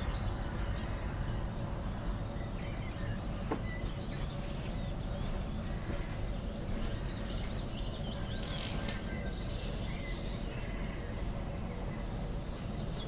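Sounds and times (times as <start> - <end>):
songbirds chirping: 0.0 - 13.0
steady low rumble: 0.0 - 13.0.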